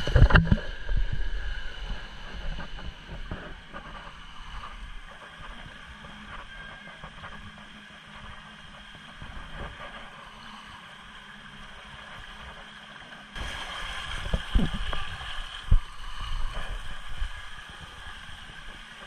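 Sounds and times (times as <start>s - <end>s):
water rushing along slide: 0.0s - 19.0s.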